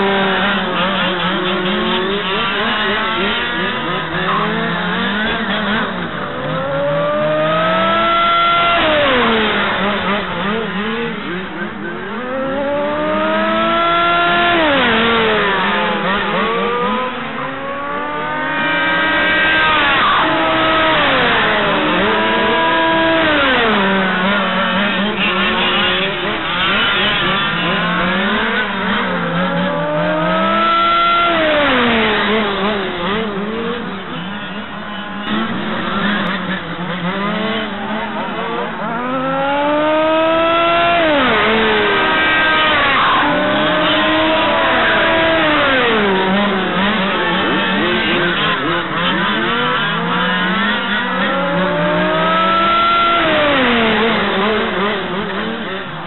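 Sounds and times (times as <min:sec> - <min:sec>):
small two-stroke engines racing: 0:00.0 - 0:56.0.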